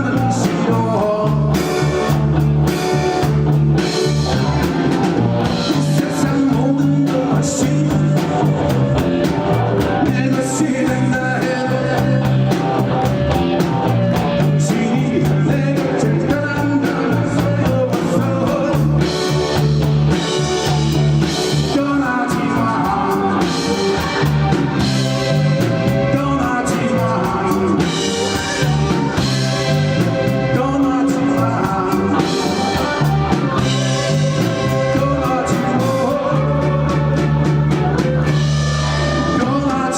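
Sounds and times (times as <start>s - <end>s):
person singing: 0.0s - 4.7s, 5.4s - 39.9s
bass guitar: 0.0s - 39.9s
drum kit beat: 0.0s - 39.9s
electric guitar: 0.0s - 39.9s.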